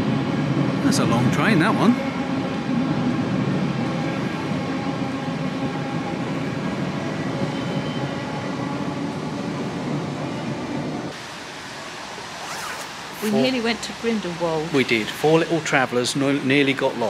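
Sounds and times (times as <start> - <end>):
train wheels running on rails: 0.0 - 17.0.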